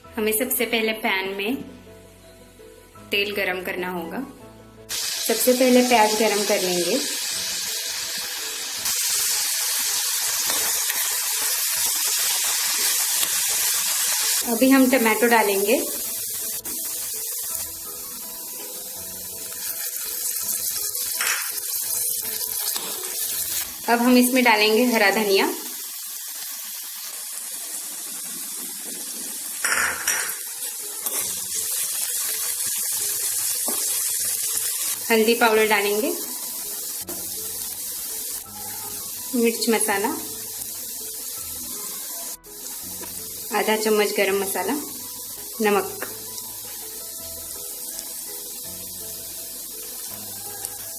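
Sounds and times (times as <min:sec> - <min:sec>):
onion sizzling in hot oil: 0:04.8 - 0:50.9.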